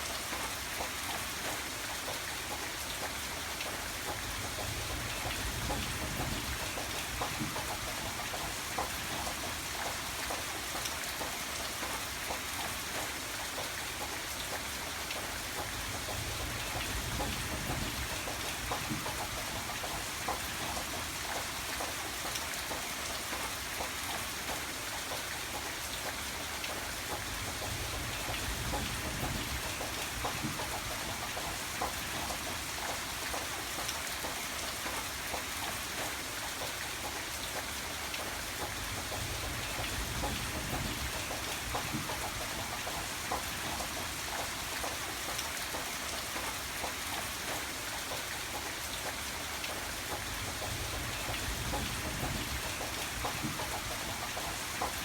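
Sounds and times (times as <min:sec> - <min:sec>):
rain hissing on a surface: 0:00.0 - 0:55.0
raindrops pattering: 0:00.0 - 0:55.0.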